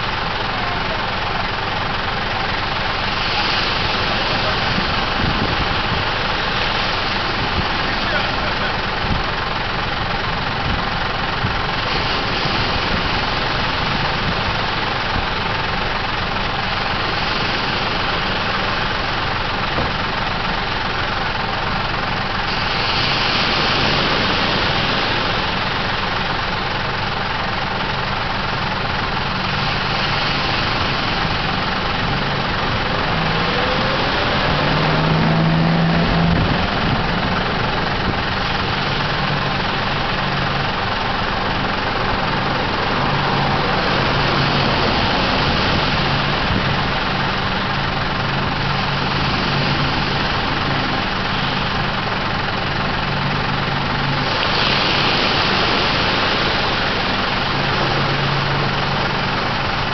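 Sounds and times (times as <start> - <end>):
engine running: 0.0 - 59.9
surf washing up beach: 0.0 - 59.9.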